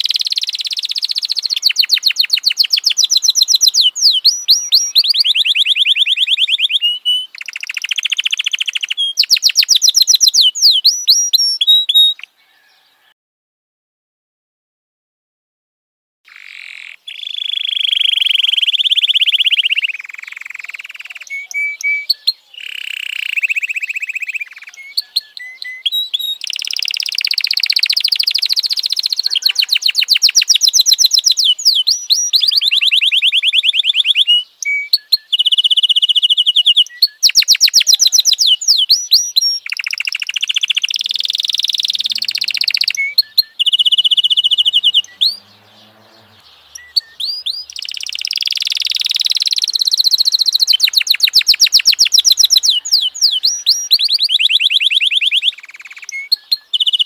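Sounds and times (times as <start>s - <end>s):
canary singing trills: 0.0s - 13.1s, 16.3s - 57.0s.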